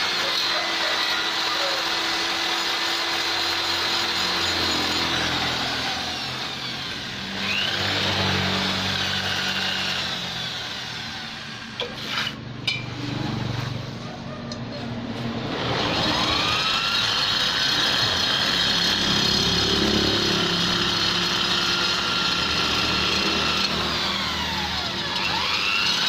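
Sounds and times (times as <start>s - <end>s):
rotary grinder grinding metal: 0.0s - 26.0s.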